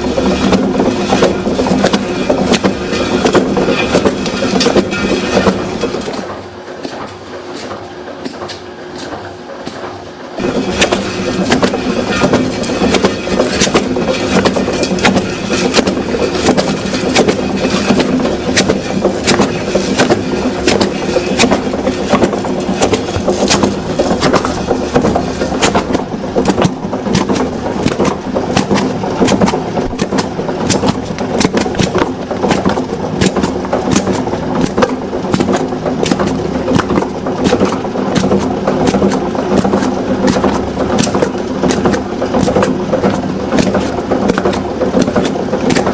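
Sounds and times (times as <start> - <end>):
machine humming: 0.0 - 45.9
sharp clicks and knocks: 0.2 - 45.9.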